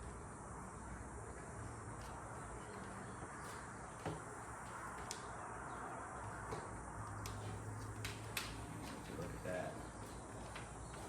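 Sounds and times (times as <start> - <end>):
steady low hum and hiss: 0.0 - 11.0.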